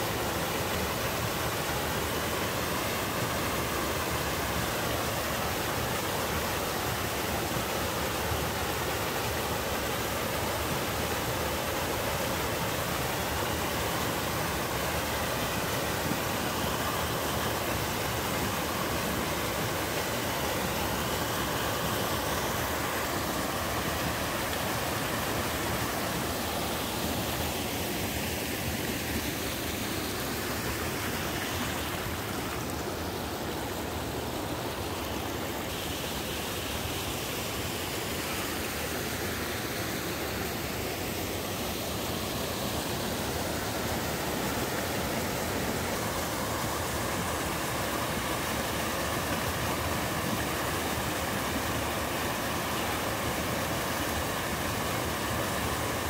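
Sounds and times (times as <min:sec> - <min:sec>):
waterfall rushing over boulders: 0:00.0 - 0:56.0.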